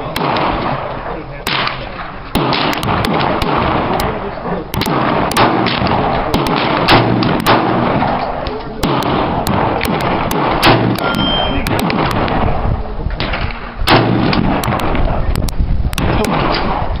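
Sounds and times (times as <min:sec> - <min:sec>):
gunshots: 0:00.0 - 0:17.0.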